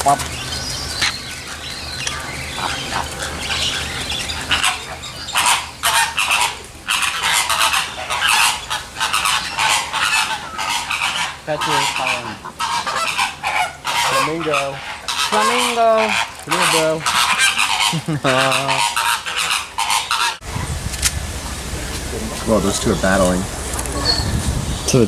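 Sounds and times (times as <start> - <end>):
flamingos honking: 0.0 - 25.0.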